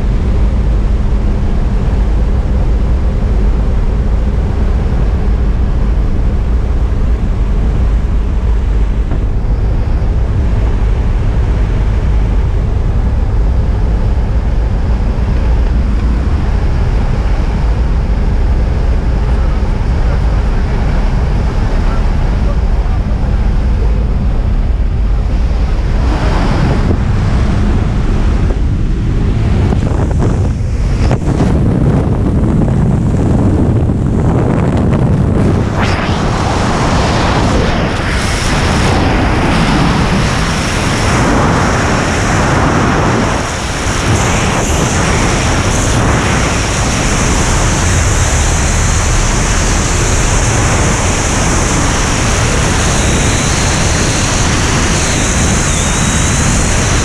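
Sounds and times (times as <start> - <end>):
freefall wind rushing: 0.0 - 57.0
plane engine and slipstream: 0.0 - 57.0.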